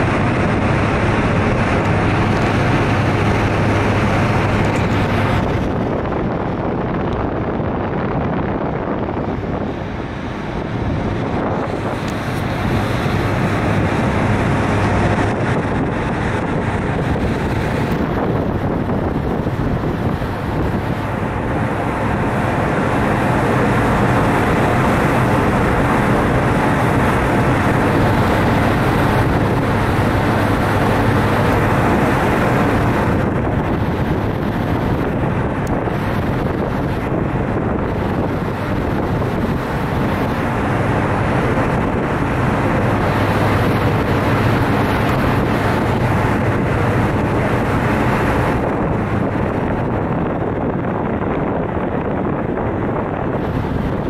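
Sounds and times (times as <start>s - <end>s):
ferry engines droning: 0.0s - 54.0s
wind rushing over microphone: 0.0s - 54.0s.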